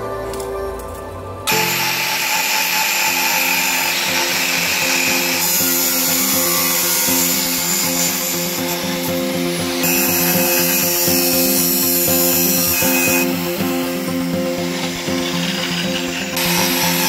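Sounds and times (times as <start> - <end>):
angle grinder cutting steel: 0.0 - 17.0
soft background music: 0.0 - 17.0.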